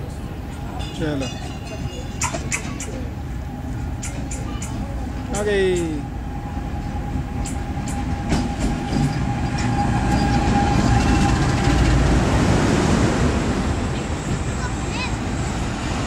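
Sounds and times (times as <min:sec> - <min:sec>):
train rolling past: 0:00.0 - 0:16.0.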